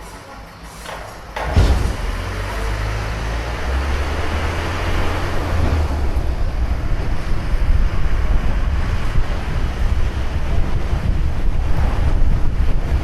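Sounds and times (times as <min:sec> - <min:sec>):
wind buffeting microphone: 0:01.4 - 0:13.0.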